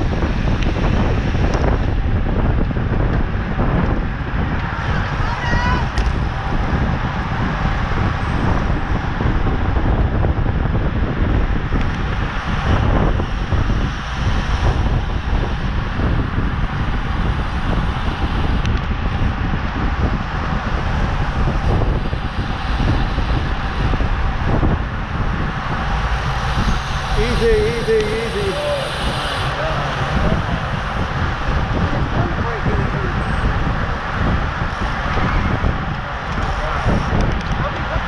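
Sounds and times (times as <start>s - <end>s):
bicycle tyre road noise: 0.0s - 38.0s
wind buffeting microphone: 0.0s - 38.0s.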